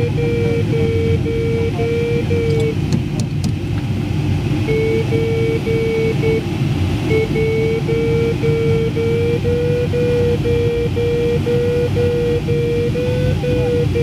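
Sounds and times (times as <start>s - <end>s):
variometer short beeps: 0.0s - 2.9s, 4.6s - 14.0s
airflow rushing past cockpit: 0.0s - 14.0s.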